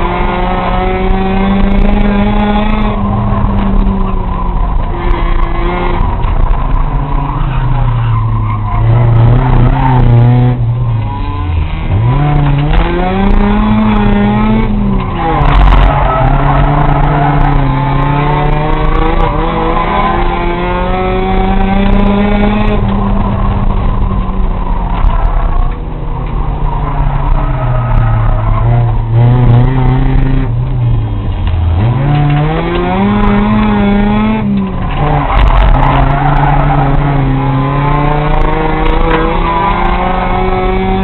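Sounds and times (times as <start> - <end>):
racing car engine revving: 0.0 - 41.0
tyre and road noise: 0.0 - 41.0.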